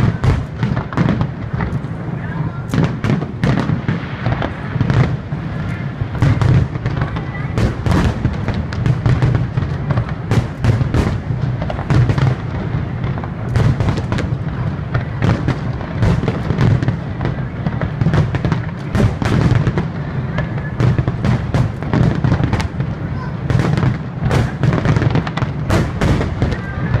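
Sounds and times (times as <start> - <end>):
fireworks bursting: 0.0 - 27.0
fireworks crackle: 0.0 - 27.0.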